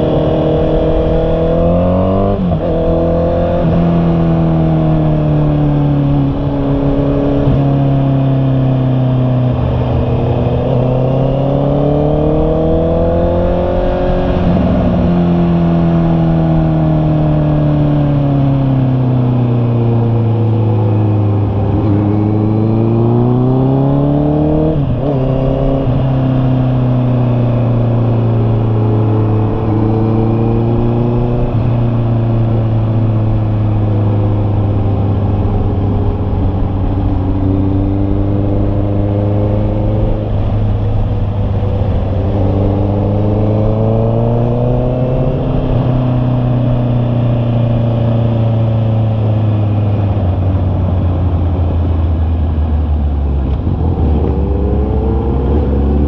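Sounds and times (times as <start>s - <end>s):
motorcycle engine running at speed: 0.0s - 56.0s.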